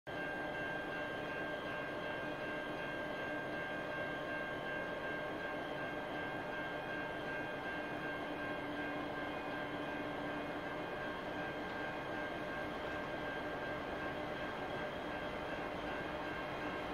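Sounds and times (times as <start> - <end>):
diesel locomotive idling: 0.2 - 16.9.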